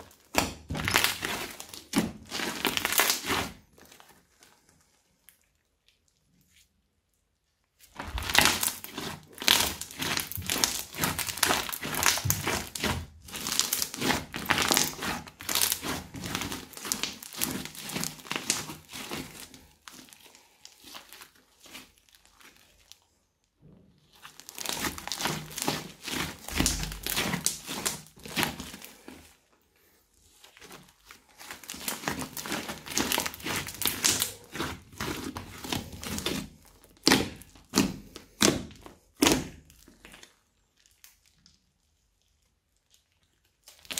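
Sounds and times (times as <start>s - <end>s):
crunchy slime crackling: 0.0s - 29.6s, 30.2s - 43.9s.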